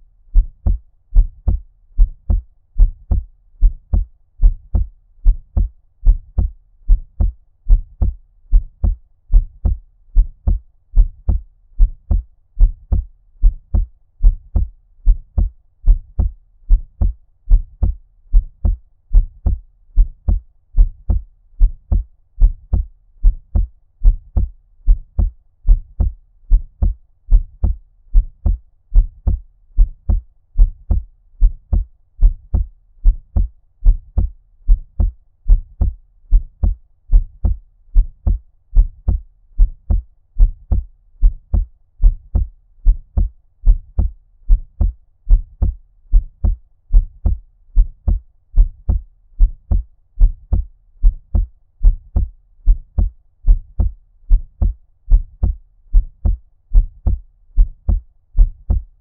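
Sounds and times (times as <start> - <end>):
muffled heartbeat thumps: 0.3 - 59.0.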